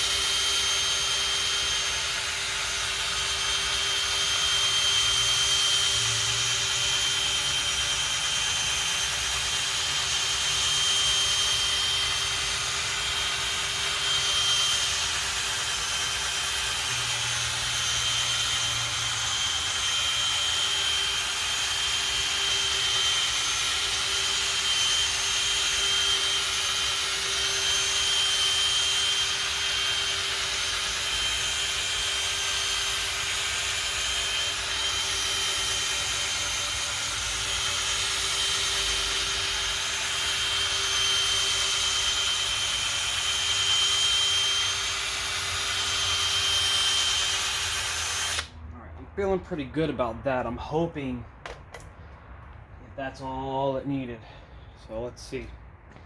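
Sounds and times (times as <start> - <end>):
electric drill buffing with polishing pad: 0.0 - 48.5.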